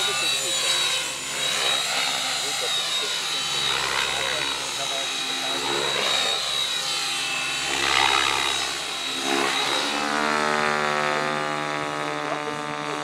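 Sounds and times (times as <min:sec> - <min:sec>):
model helicopter rotor and motor: 0:00.0 - 0:13.0.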